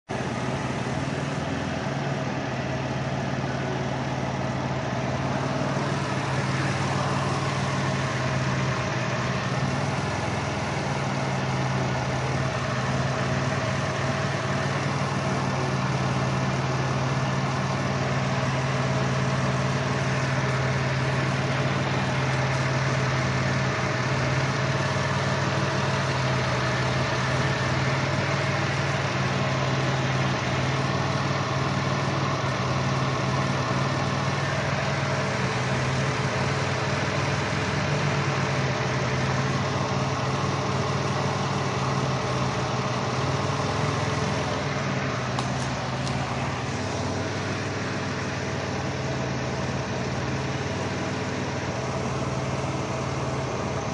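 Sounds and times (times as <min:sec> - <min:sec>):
misfiring engine idling: 0:00.1 - 0:53.9.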